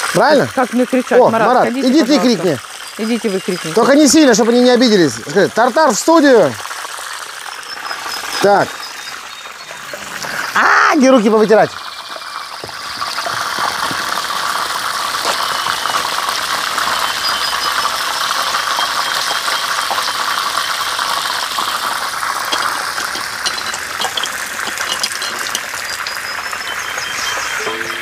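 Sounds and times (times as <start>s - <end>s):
squid sizzling in hot oil: 0.0s - 28.0s.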